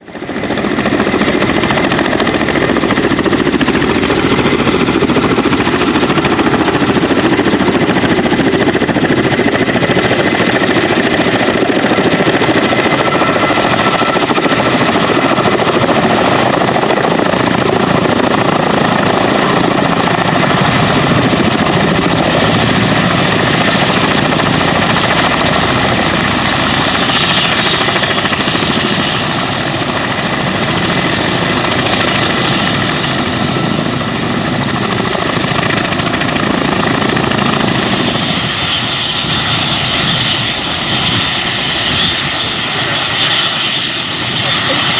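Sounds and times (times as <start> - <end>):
helicopter rotor noise: 0.0 - 44.9
high turbine whine: 0.3 - 44.9.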